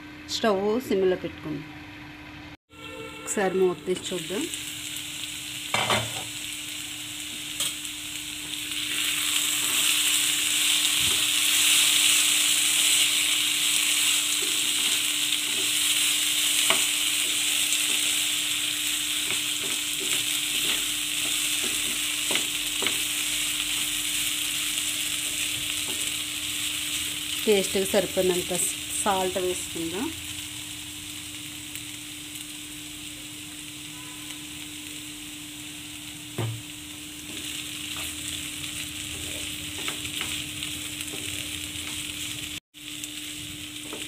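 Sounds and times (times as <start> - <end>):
potatoes sizzling in oil: 3.5 - 44.0.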